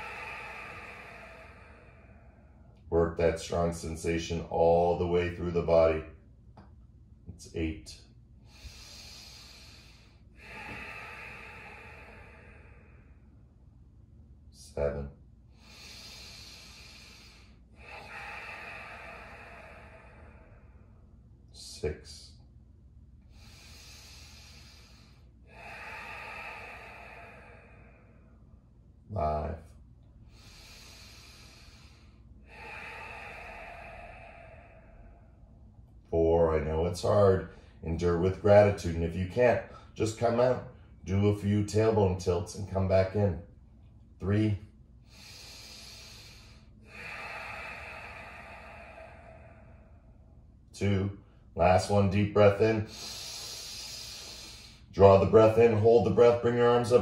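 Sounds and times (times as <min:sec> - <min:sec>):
man breathing deeply: 0:00.0 - 0:03.6, 0:08.3 - 0:22.4, 0:23.2 - 0:36.1, 0:37.0 - 0:41.1, 0:42.9 - 0:57.0.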